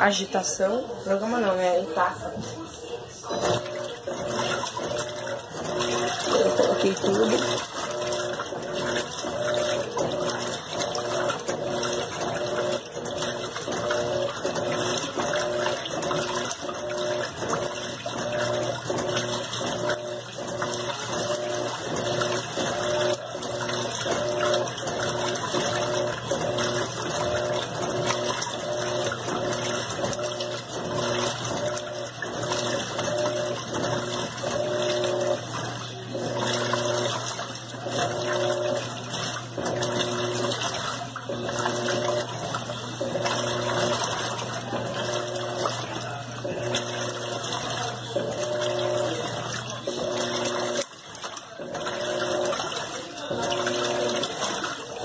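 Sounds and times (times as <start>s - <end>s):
washing machine motor hum: 0.0s - 55.0s
water sloshing in washing machine: 0.0s - 55.0s.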